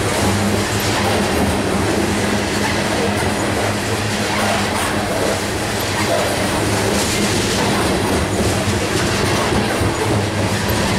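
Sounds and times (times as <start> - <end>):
train wheels rolling on rails: 0.0 - 10.9.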